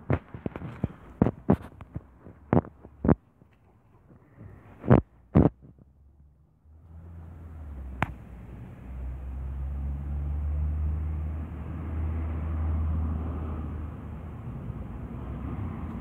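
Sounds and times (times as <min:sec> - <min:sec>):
outdoor background noise: 0:00.0 - 0:16.0
vehicle engine rumbling: 0:00.0 - 0:16.0.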